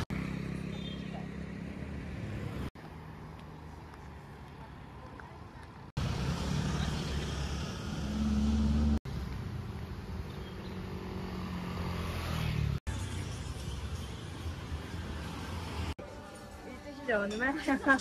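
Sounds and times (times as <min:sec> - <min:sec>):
vehicle engines humming: 0:00.0 - 0:16.4.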